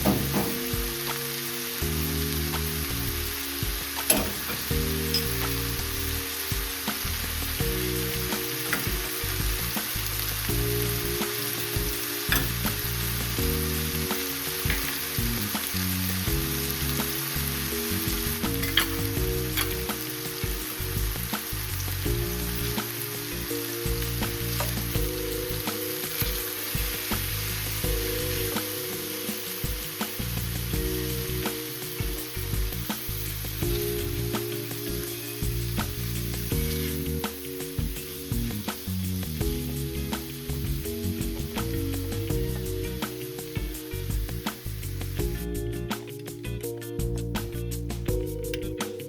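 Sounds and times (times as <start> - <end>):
food sizzling in frying pan: 0.0 - 48.7
background music: 0.0 - 49.0.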